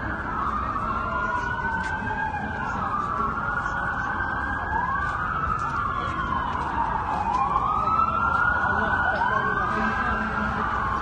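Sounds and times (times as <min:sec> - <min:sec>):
police sirens wailing: 0:00.0 - 0:11.0.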